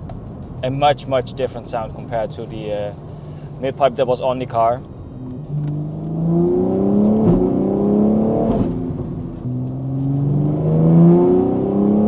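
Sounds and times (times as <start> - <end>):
car engine accelerating: 0.0 - 12.0
exhaust cracks: 0.0 - 12.0.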